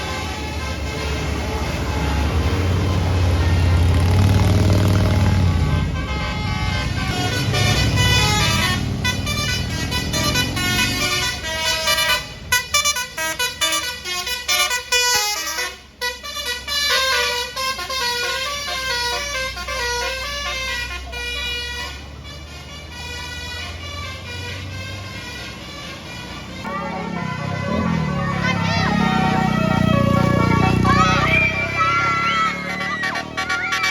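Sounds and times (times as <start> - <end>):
loud bus engine: 0.0 - 33.9
multi-tone musical bus horn: 0.0 - 33.9.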